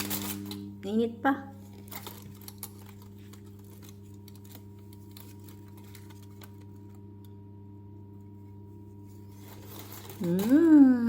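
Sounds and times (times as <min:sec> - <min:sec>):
faint low electrical hum: 0:00.0 - 0:11.0.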